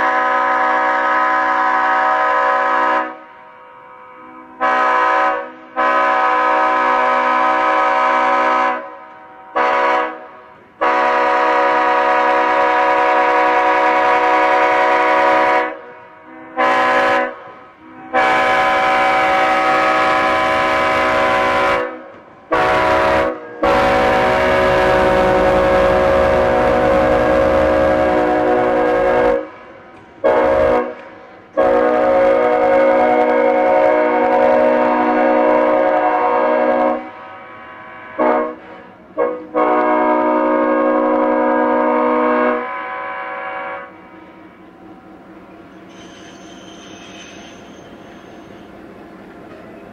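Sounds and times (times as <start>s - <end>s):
locomotive air horn blasts: 0.0s - 29.6s, 30.2s - 44.0s.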